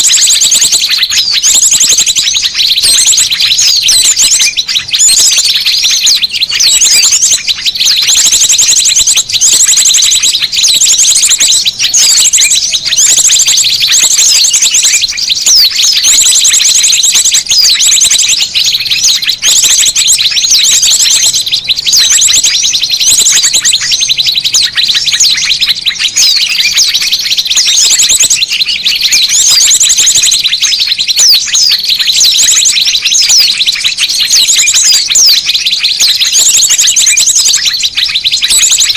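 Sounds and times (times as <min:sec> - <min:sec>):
fast bird trill: 0:00.0 - 0:38.9
small birds chirping: 0:00.0 - 0:38.9.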